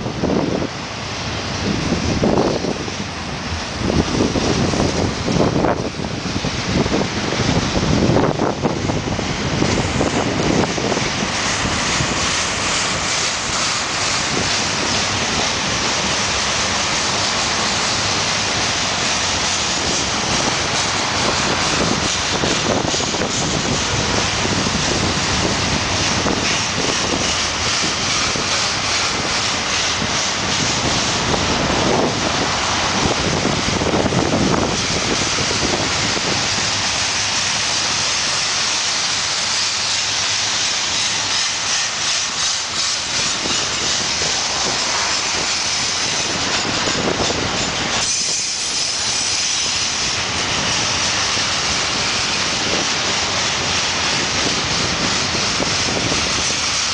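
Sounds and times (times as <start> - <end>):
train wheels on rails: 0.0 - 56.9
wind buffeting microphone: 0.0 - 56.9.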